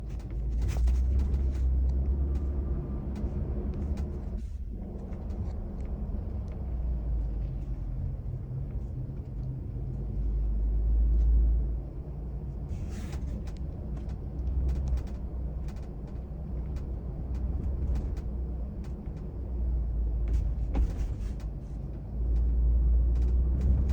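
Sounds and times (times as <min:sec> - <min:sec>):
road rumble inside car: 0:00.0 - 0:23.9.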